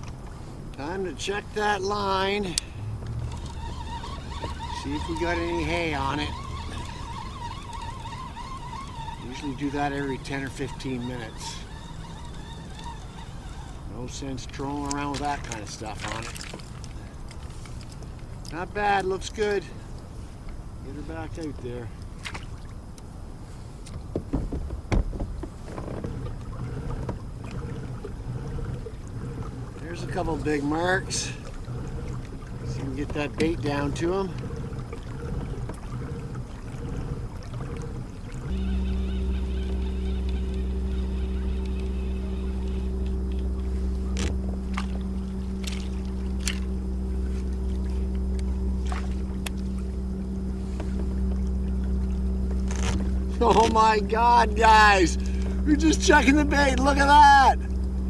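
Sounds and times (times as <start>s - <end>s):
knocks and clicks against hull: 0.0s - 0.9s, 1.9s - 20.6s, 21.2s - 23.1s, 23.8s - 58.0s
boat motor humming: 0.0s - 58.0s
low steady rumble: 0.0s - 58.0s.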